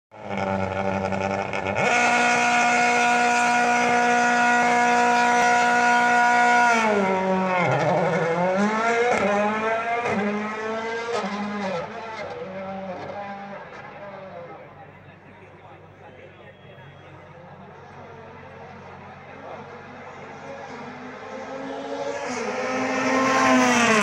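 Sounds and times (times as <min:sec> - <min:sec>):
rally car engine revving: 0:00.1 - 0:14.8, 0:17.3 - 0:24.0.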